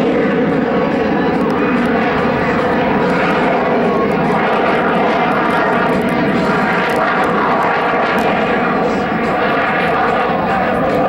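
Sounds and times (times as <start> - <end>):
jet engines roaring in flight: 0.0 - 11.0.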